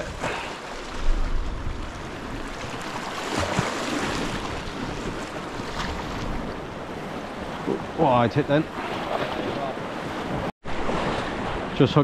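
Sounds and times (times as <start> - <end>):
sea waves breaking on rocks: 0.0 - 12.0.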